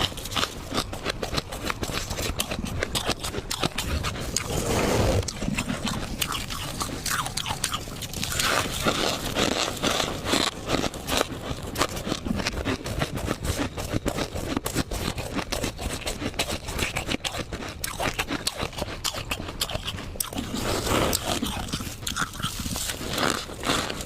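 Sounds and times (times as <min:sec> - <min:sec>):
frost being scraped and crunched: 0:00.0 - 0:16.4, 0:20.3 - 0:24.0.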